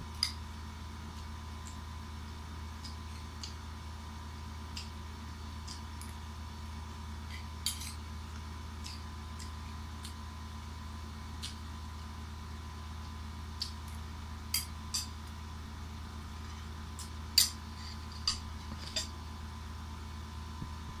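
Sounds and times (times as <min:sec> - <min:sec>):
electric fan hum: 0:00.0 - 0:21.0.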